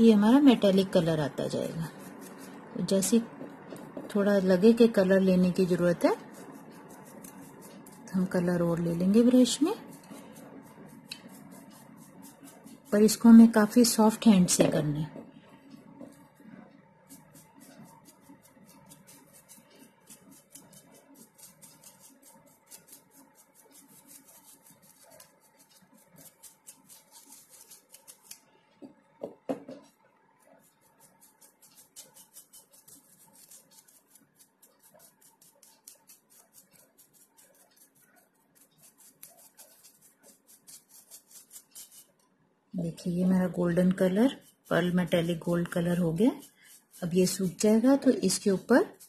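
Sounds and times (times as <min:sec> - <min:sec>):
paintbrush bristles scratching: 0:00.0 - 0:28.4, 0:30.4 - 0:42.2, 0:43.1 - 0:49.0.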